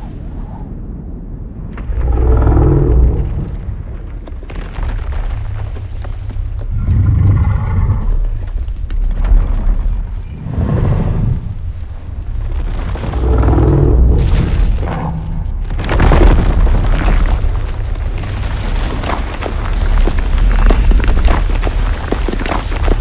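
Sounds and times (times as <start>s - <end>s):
deep continuous rumble: 0.0s - 23.0s.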